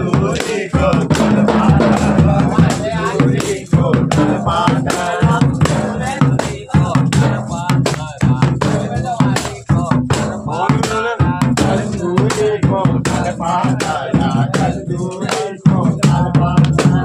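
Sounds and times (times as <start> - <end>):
drum beating: 0.0 - 17.0
men singing folk song: 0.0 - 17.0.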